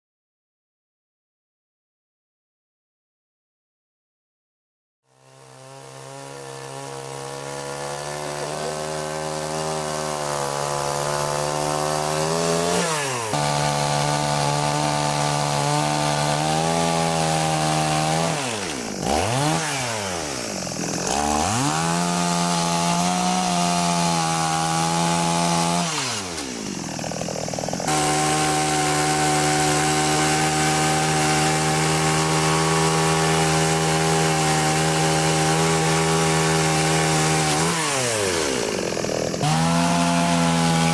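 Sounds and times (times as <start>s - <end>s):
chainsaw carving wood: 5.1s - 40.9s.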